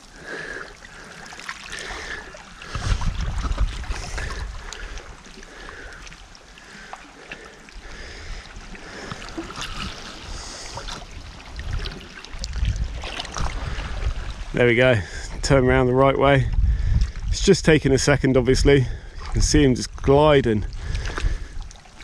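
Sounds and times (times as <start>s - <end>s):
seawater lapping around rocks: 0.0s - 22.0s
wind buffeting microphone: 1.9s - 6.0s, 7.8s - 21.7s.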